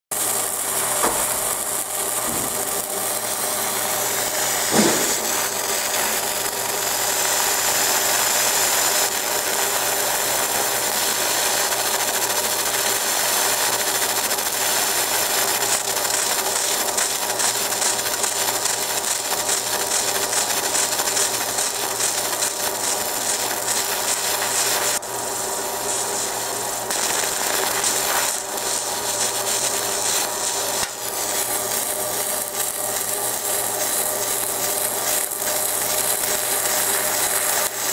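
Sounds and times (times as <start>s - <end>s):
laser hissing crackle on metal: 0.1s - 37.9s.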